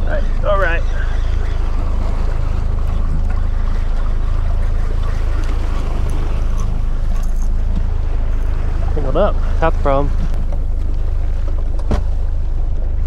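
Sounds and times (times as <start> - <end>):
outboard motor droning: 0.0 - 13.0
water noise: 0.0 - 13.0
wind: 0.0 - 13.0.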